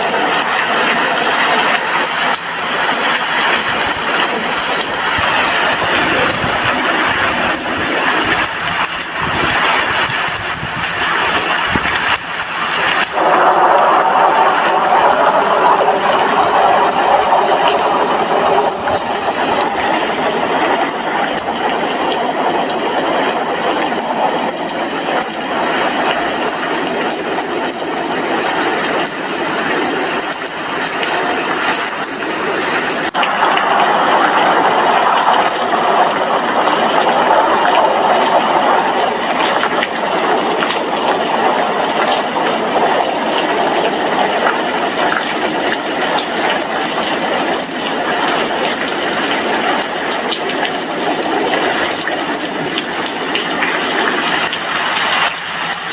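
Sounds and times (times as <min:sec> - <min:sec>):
rain on window: 0:00.0 - 0:55.9.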